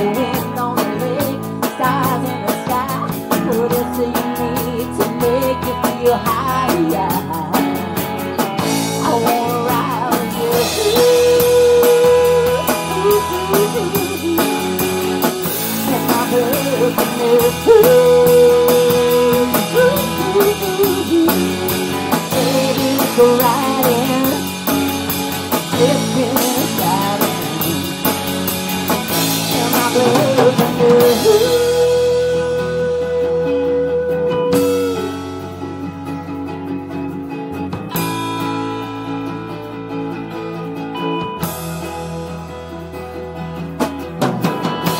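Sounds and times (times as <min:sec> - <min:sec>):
acoustic guitar: 0:00.0 - 0:44.9
drum kit: 0:00.0 - 0:44.9
electric guitar: 0:00.0 - 0:44.9.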